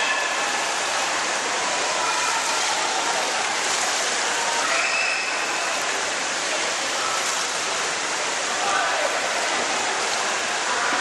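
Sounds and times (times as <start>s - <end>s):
pool water rushing into gutter: 0.0s - 11.0s.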